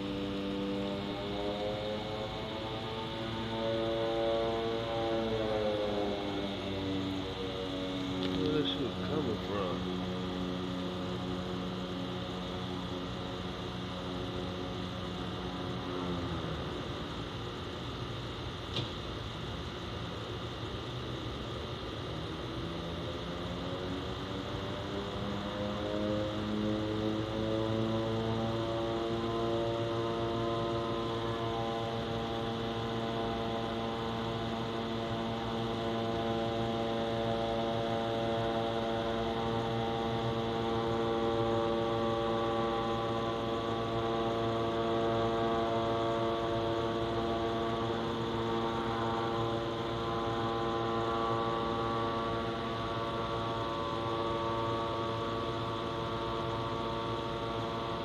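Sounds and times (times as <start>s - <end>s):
droning hum from the sky: 0.0s - 58.0s.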